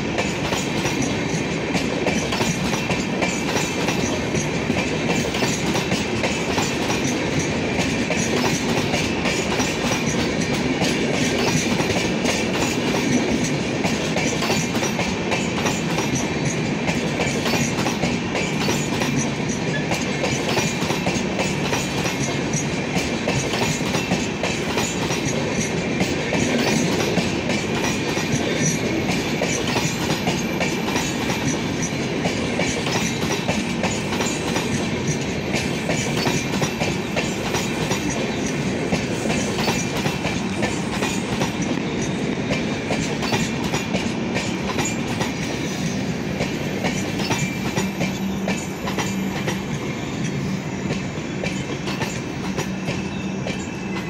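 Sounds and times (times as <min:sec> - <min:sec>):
train coaches rumbling past: 0:00.0 - 0:54.0.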